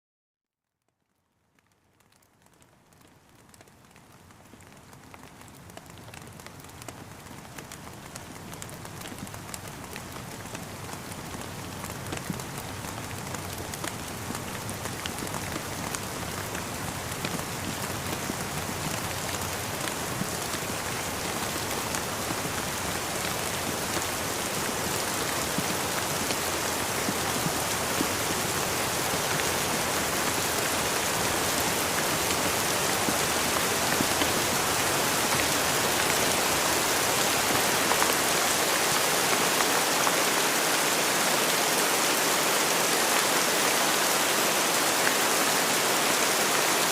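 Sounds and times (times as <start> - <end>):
rain drops tapping: 0.8 - 46.9.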